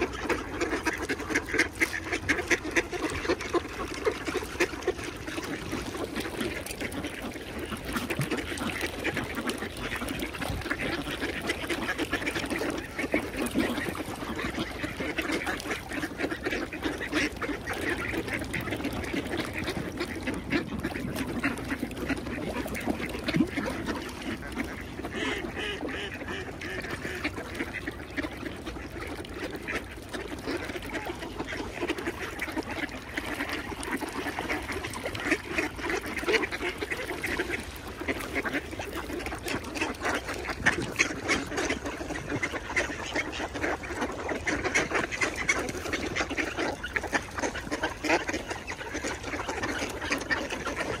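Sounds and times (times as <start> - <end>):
ducks quacking: 0.0 - 51.0.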